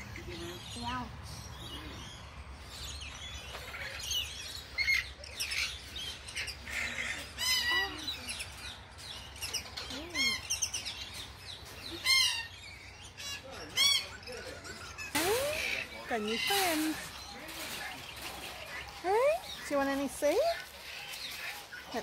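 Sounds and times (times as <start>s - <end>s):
birds chirping and squawking: 0.0s - 22.0s.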